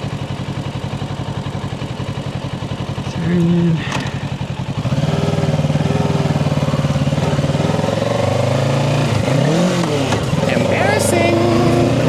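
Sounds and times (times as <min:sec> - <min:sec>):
motorcycle engine riding along: 0:00.0 - 0:12.0.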